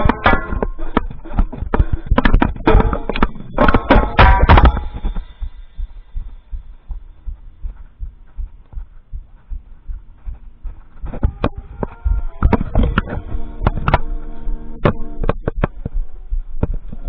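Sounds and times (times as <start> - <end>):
soft low drum thumps: 0.0 - 17.0.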